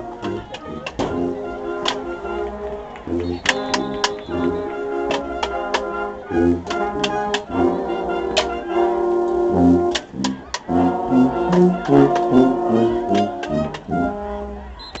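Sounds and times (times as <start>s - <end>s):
marching band brass tune: 0.0s - 15.0s.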